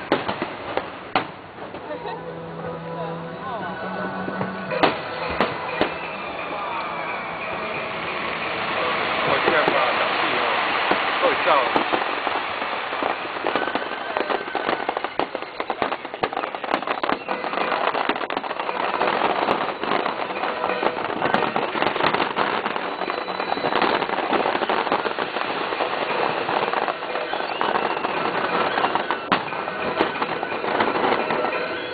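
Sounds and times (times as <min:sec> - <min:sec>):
fireworks crackling: 0:00.0 - 0:31.9.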